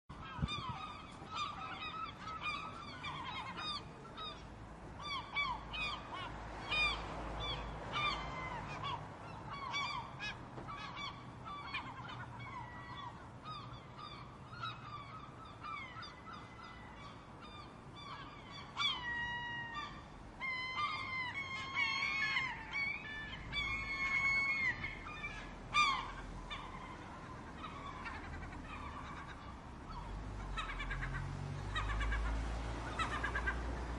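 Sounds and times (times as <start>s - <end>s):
gulls calling: 0.1s - 33.9s.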